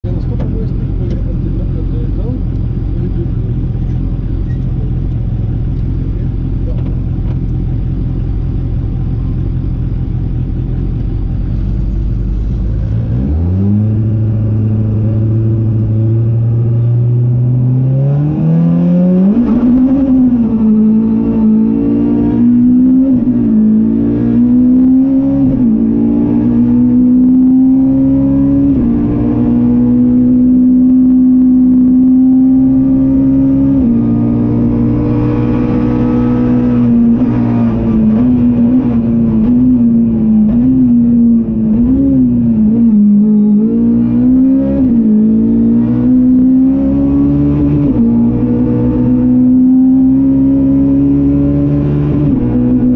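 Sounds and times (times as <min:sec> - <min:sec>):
rally car engine accelerating: 0:00.0 - 0:52.9.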